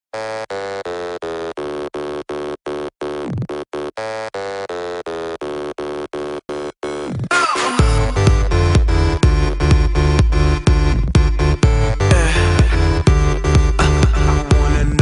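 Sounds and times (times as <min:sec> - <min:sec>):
pulsing synthesizer chord: 0:00.2 - 0:15.0.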